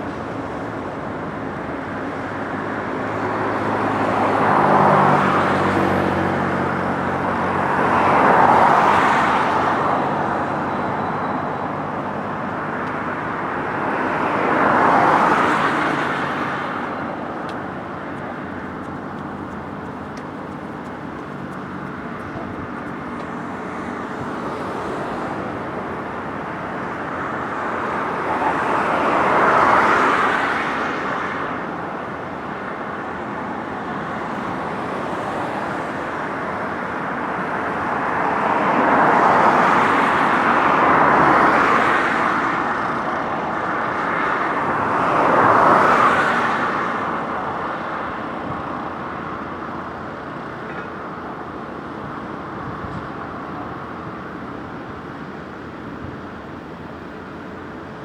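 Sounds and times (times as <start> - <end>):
steady traffic hum: 0.0 - 58.0
vehicles passing close by: 0.0 - 58.0.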